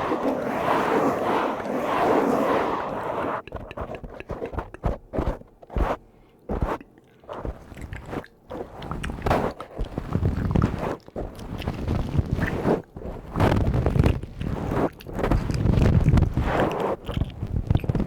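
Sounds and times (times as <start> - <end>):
brush scratching a microphone: 0.0 - 18.0.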